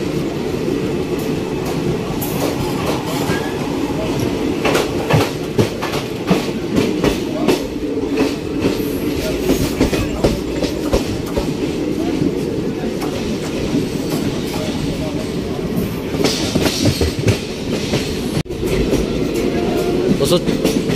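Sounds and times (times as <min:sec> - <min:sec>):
train running gear rumble: 0:00.0 - 0:20.9
wheels clacking over rail joints: 0:01.1 - 0:20.9.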